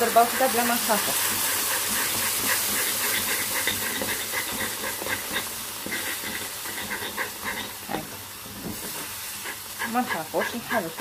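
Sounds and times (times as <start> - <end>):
caramel hissing and bubbling: 0.0 - 11.0.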